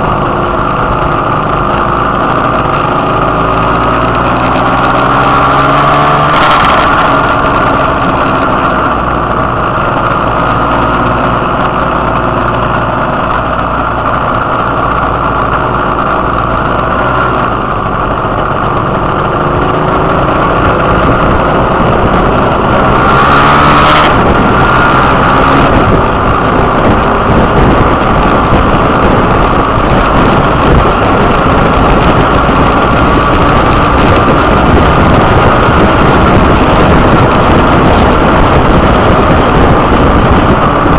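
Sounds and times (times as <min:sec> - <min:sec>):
motorbike engine running: 0:00.0 - 0:40.9
wind rush on microphone: 0:00.0 - 0:40.9.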